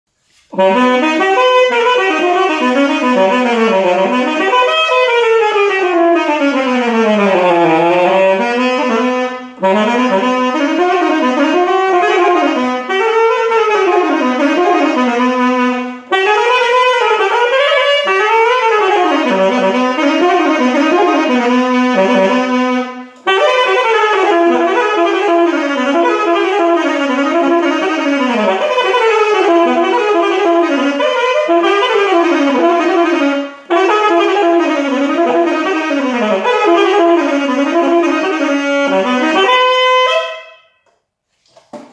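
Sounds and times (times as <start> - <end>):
alto saxophone melody: 0.2 - 41.0.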